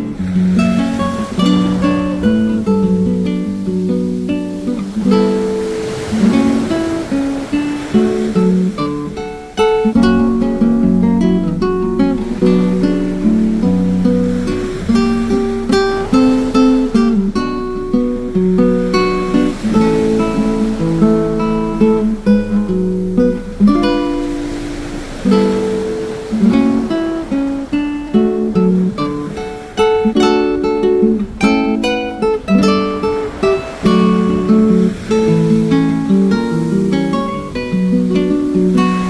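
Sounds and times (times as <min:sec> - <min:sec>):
acoustic guitar music: 0:00.0 - 0:39.0.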